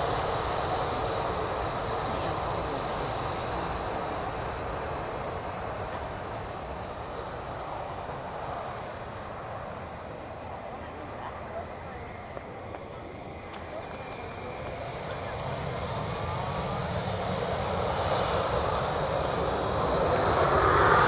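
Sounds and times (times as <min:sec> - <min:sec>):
jet engines rushing and whining: 0:00.0 - 0:21.0.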